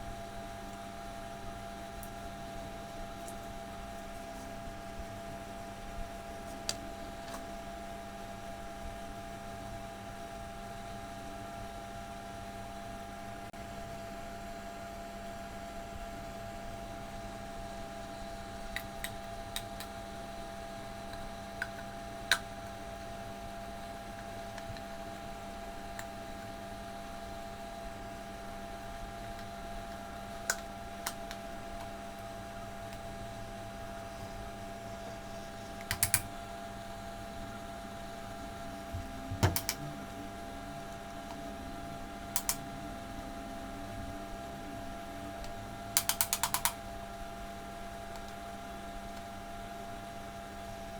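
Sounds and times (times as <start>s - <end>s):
steady hum of fixed tones: 0.0s - 50.9s.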